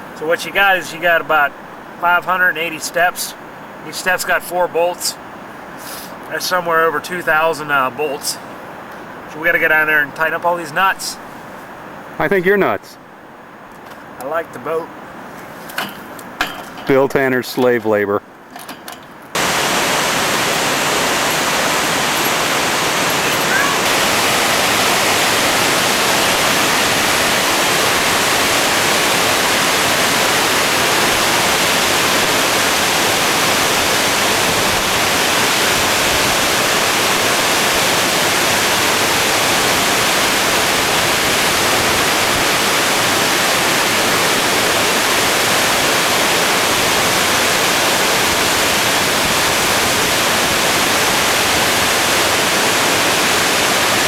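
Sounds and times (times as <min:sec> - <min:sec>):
rushing whitewater: 0:00.0 - 0:11.1, 0:19.4 - 0:54.0.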